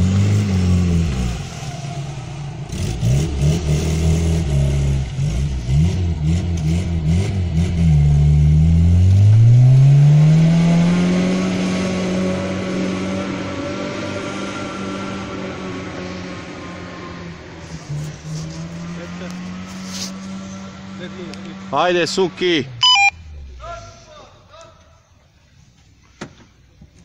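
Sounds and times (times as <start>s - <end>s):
off-road vehicle engine revving: 0.0s - 24.1s.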